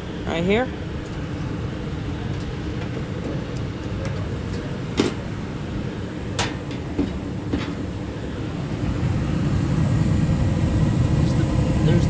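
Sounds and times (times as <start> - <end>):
gas furnace rushing: 0.0 - 12.0.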